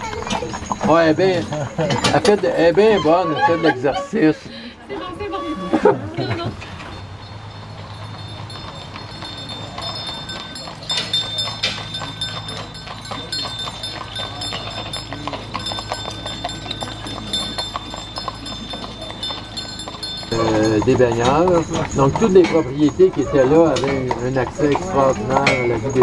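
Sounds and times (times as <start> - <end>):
horse hooves clip-clopping on pavement: 0.0 - 26.0.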